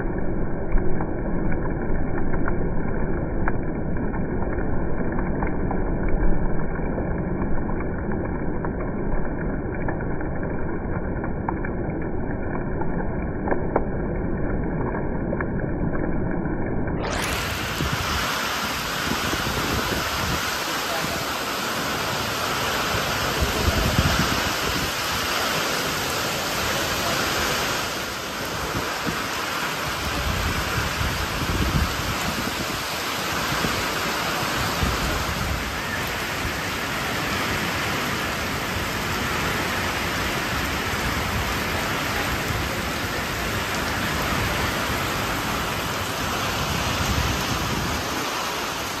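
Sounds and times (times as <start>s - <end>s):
heavy rain pouring: 0.0s - 49.0s
wind rumbling on microphone: 0.0s - 49.0s.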